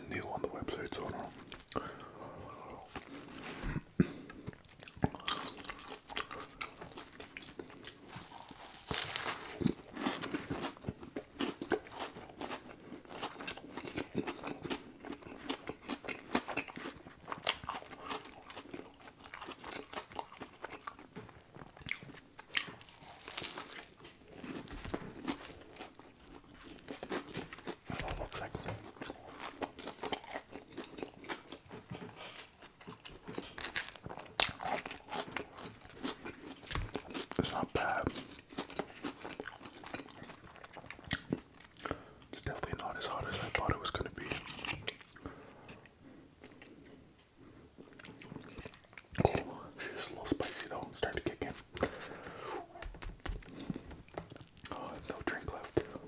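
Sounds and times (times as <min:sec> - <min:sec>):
man chewing and crunching food: 0:00.0 - 0:56.0.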